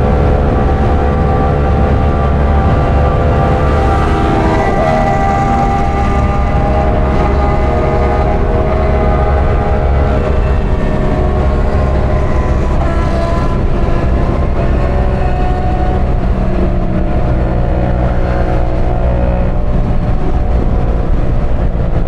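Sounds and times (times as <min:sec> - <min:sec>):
motorcycle engine running hard: 0:00.0 - 0:22.0
wind rush over microphone: 0:00.0 - 0:22.0.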